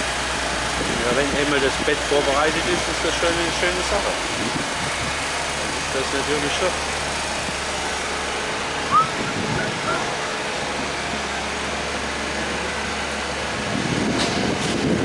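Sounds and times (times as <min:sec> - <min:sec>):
construction machinery engine hum: 0:00.0 - 0:15.0
traffic: 0:00.0 - 0:15.0.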